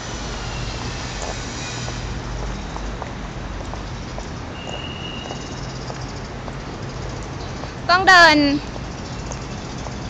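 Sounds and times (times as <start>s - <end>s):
urban traffic noise: 0.0s - 10.0s.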